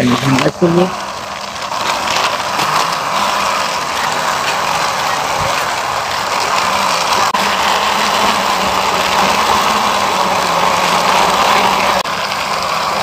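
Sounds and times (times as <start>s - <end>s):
toy truck wheels rolling on concrete: 0.0s - 13.0s.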